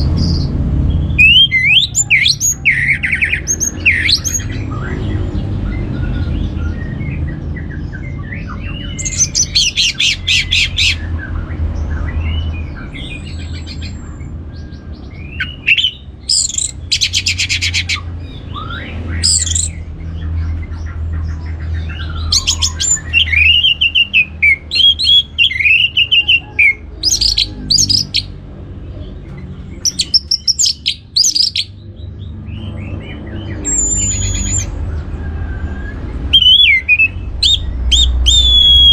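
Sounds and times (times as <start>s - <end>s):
thrush singing trills and whistles: 0.0s - 20.5s, 21.2s - 28.4s, 29.8s - 31.9s, 32.5s - 38.9s.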